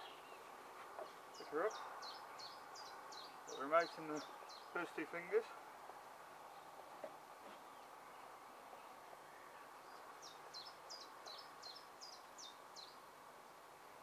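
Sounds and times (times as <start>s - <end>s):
faint open-air background: 0.0s - 14.0s.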